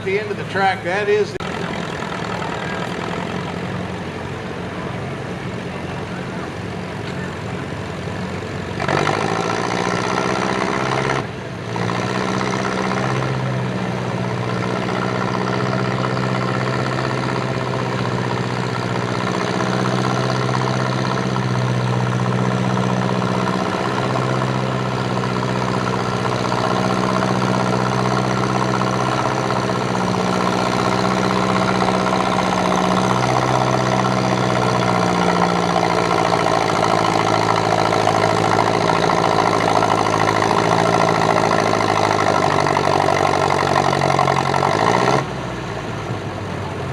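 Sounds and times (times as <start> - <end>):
tractor engine under load: 0.0 - 46.9.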